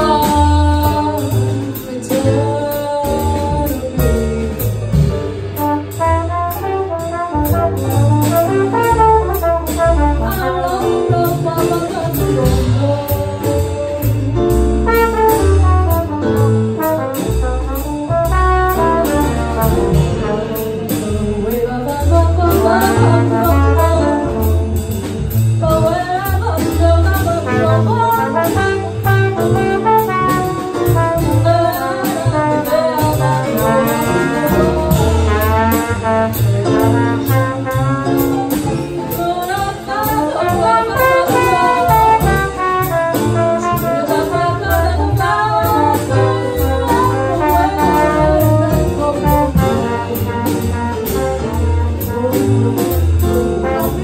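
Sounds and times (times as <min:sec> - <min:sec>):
double bass: 0:00.0 - 0:54.0
drums on cymbals: 0:00.0 - 0:54.0
piano: 0:00.0 - 0:54.0
trombone lead: 0:00.0 - 0:54.0.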